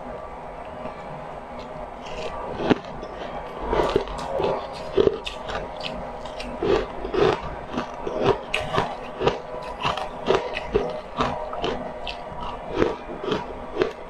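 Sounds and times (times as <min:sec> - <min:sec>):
crisp crunching and chewing: 0:00.6 - 0:14.0.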